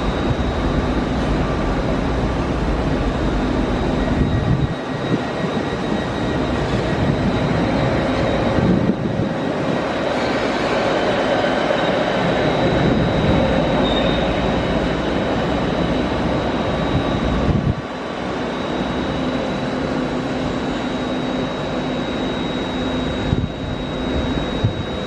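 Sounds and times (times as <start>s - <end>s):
high whine: 0.0s - 25.0s
train rumbling on track: 0.0s - 25.0s.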